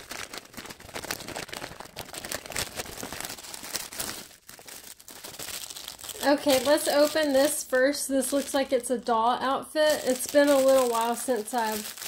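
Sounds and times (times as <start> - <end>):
plastic bag crinkling and rustling: 0.0 - 8.9, 9.8 - 12.0.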